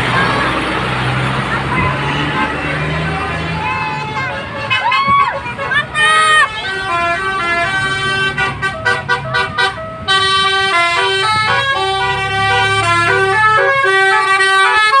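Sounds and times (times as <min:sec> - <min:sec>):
engine running: 0:00.0 - 0:04.7, 0:05.4 - 0:15.0
musical bus horns: 0:00.0 - 0:15.0.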